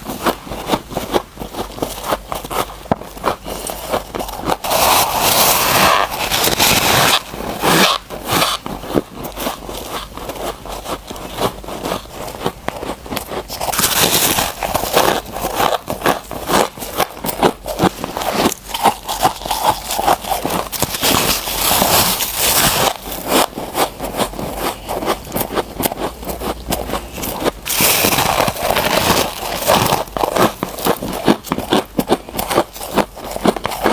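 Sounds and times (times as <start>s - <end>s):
chewing crunchy frost: 0.0s - 33.9s.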